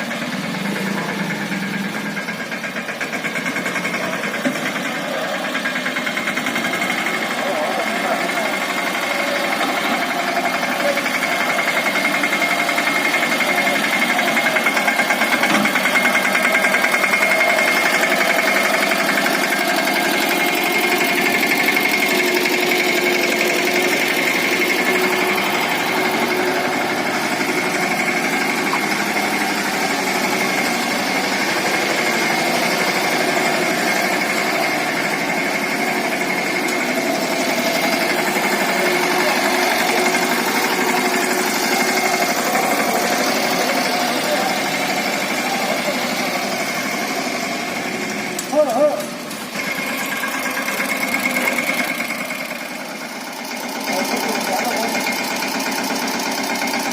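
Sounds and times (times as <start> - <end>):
tractor diesel engine chugging: 0.0 - 56.9.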